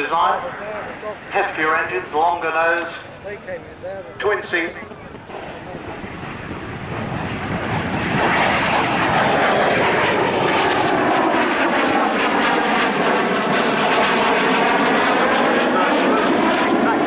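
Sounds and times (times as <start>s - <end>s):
jet engines roaring in a flypast: 0.0s - 17.0s.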